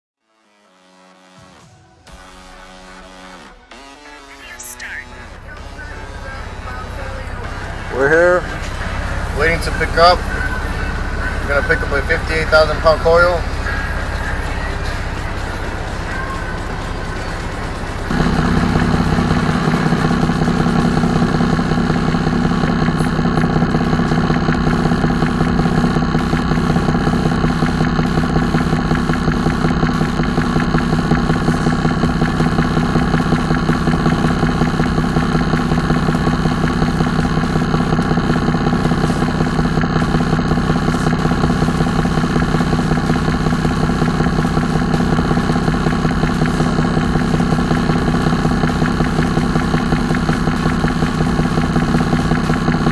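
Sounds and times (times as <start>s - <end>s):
diesel truck engine idling: 4.8s - 52.9s.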